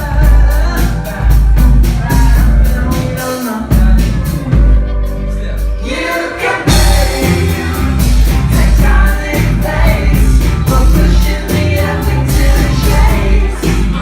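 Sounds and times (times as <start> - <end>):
live rock band: 0.0 - 14.0
person singing: 0.0 - 14.0.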